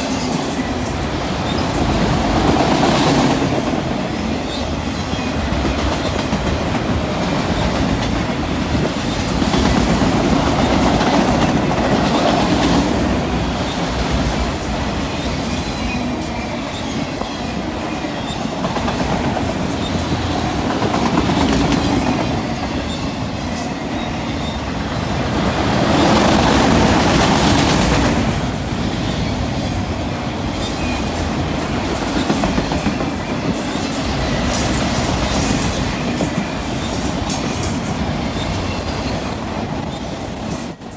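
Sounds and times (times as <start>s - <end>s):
freight train cars rolling: 0.0s - 40.9s.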